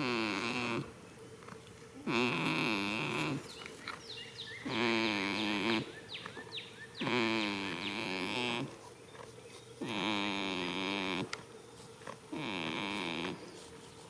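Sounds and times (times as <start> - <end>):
goat snoring: 0.0 - 6.2, 7.0 - 14.0.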